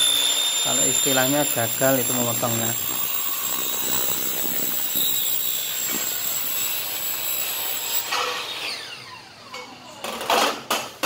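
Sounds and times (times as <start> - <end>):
motor winding down: 0.0 - 10.2
miter saw cutting aluminium: 0.0 - 10.9.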